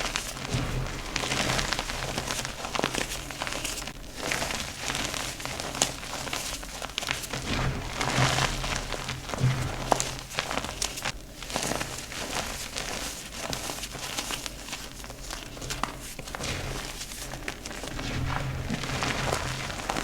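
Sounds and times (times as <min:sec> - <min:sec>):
chalk crunching and crackling: 0:00.0 - 0:20.0.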